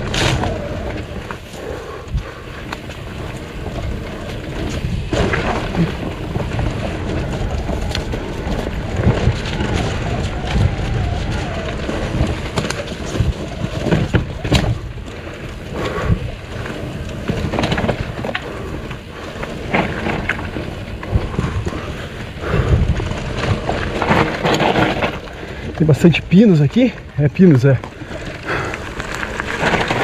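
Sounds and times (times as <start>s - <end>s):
bike knocks and rattles: 0.0s - 30.0s
bike tyre noise on dirt: 0.0s - 30.0s
wind buffeting microphone: 0.0s - 30.0s.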